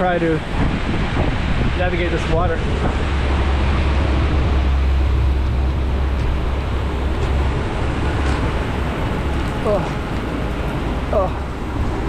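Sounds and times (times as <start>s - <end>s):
heavy rain hissing: 0.0s - 12.0s
low rumble: 0.0s - 12.0s.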